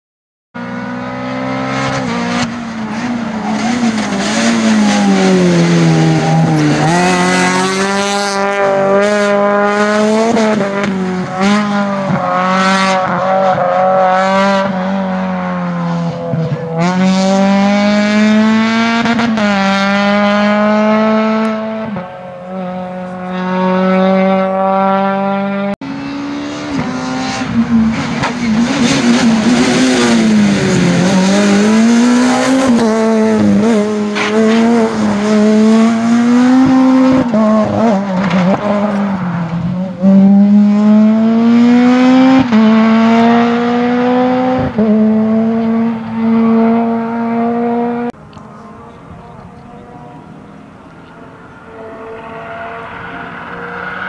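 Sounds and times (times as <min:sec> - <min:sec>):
rally car engine revving: 0:00.6 - 0:54.0.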